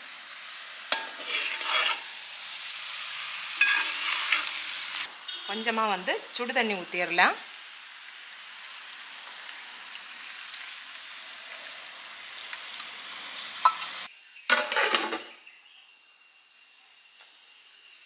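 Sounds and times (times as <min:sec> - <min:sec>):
chicken sizzling in a pot: 0:00.0 - 0:15.2.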